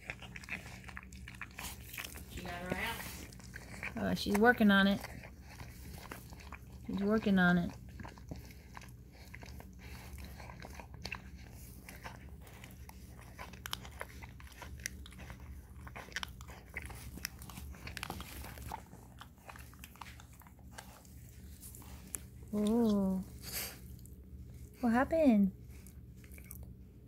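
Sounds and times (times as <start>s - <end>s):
dog licking wet smacking: 0.0s - 24.8s.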